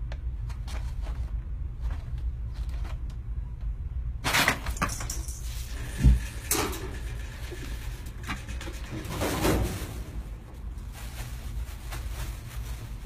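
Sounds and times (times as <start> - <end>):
rustling and scraping: 0.4 - 3.2, 4.3 - 13.0.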